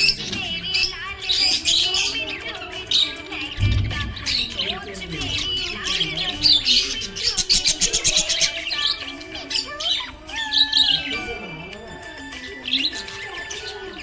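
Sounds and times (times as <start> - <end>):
budgie chirping and squawking: 0.0 - 14.0.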